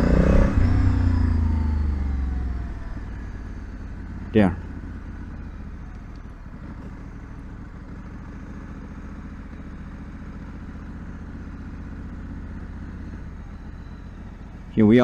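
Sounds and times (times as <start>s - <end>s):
motorcycle engine idling low: 0.0s - 15.0s.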